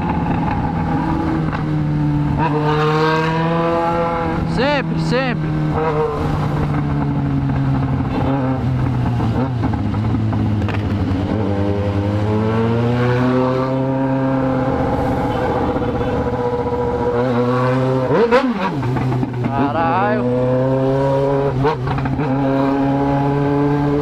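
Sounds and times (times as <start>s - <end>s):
motorcycle engine with loud exhaust: 0.0s - 24.0s.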